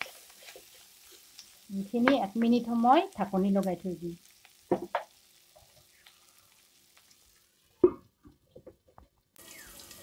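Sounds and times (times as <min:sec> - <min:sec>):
fat and spices sizzling: 0:00.0 - 0:10.0.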